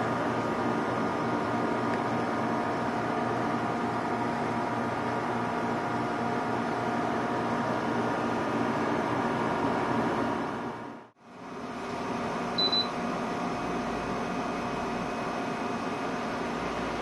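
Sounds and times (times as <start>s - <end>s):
air conditioner fan rush: 0.0s - 17.0s.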